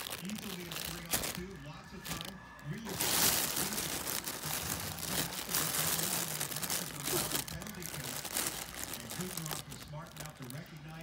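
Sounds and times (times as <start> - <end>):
crinkly tunnel rustling: 0.0 - 11.0.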